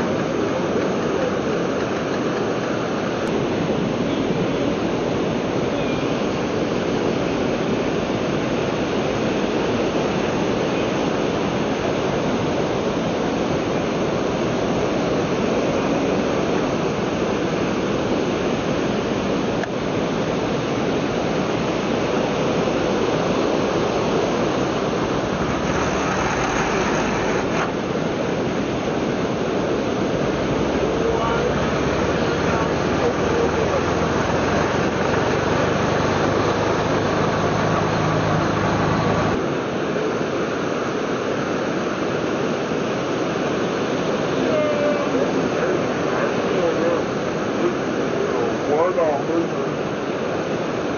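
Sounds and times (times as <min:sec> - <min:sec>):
ocean surf breaking: 0:00.0 - 0:50.9.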